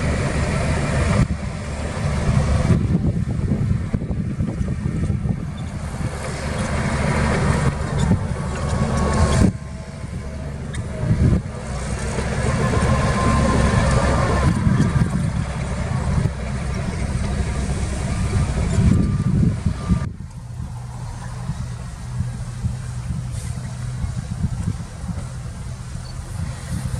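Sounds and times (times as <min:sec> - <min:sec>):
heavy diesel machinery engine: 0:00.0 - 0:26.9.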